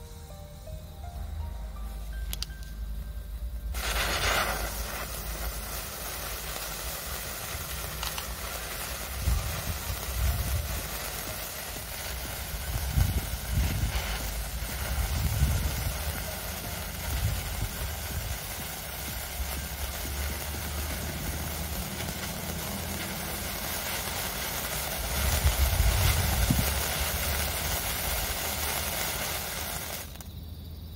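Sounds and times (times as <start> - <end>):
sparkler fizzing hiss: 0.0 - 30.9.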